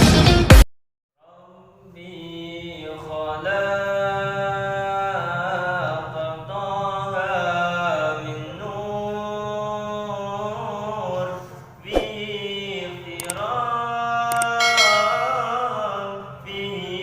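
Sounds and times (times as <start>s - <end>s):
person chanting devotional song: 1.2s - 17.0s.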